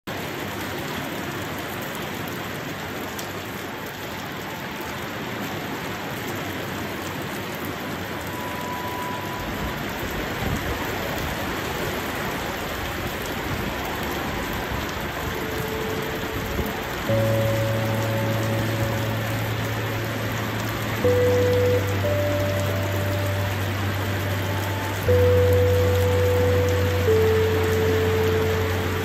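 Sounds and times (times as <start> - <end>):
heavy rain pouring: 0.1 - 29.0.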